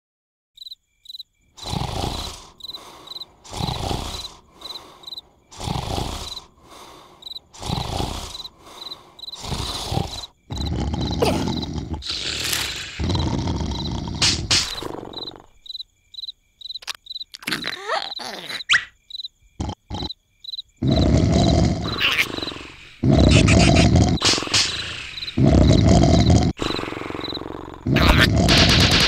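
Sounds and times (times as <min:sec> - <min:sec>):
crickets chirping: 0:00.6 - 0:29.0
cartoon snoring: 0:01.6 - 0:15.6, 0:17.4 - 0:18.9, 0:19.6 - 0:20.2, 0:20.8 - 0:29.0.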